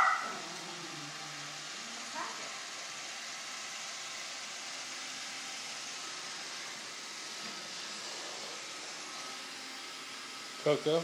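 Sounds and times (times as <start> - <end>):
robot vacuum hissing: 0.0 - 11.0.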